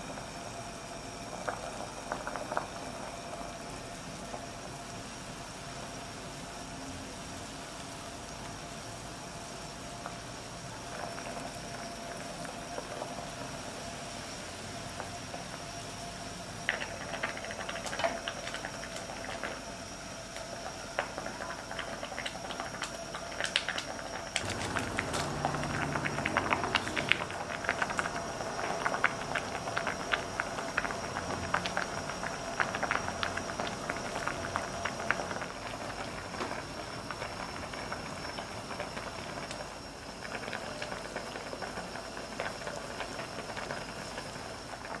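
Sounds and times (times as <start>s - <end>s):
broth bubbling at a boil: 0.0s - 45.0s.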